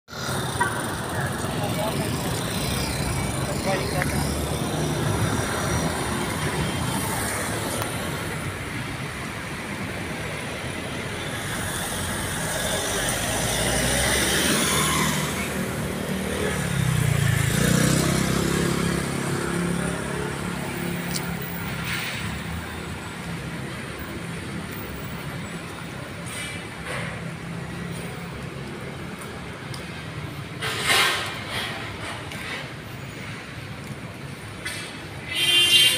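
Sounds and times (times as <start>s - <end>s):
cars driving past: 0.1s - 35.2s.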